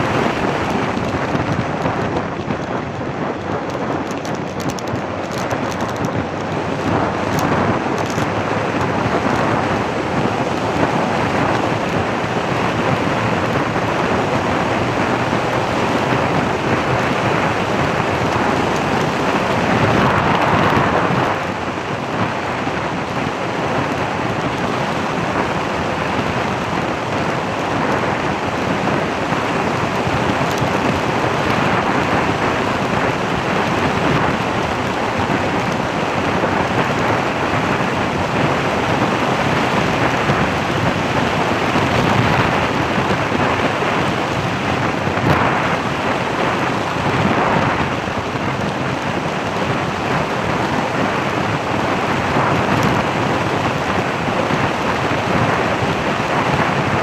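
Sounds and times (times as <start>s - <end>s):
vehicle road noise: 0.0s - 57.0s
wind buffeting microphone: 0.0s - 57.0s.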